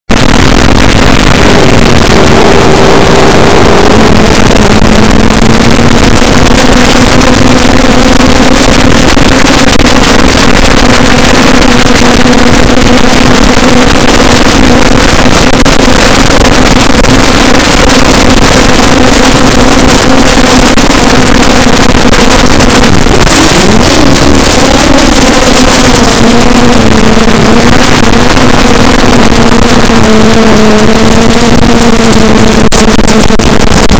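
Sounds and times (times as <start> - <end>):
drone motors humming: 0.1 - 33.9.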